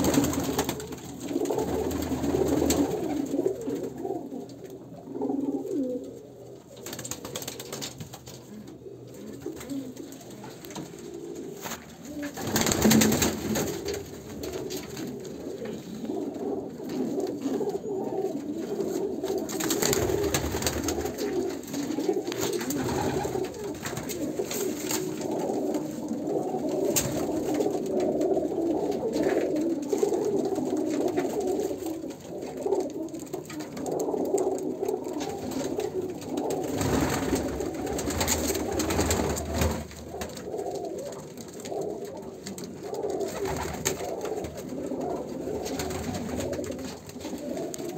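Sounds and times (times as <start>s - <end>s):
pigeons cooing: 0.0s - 47.9s.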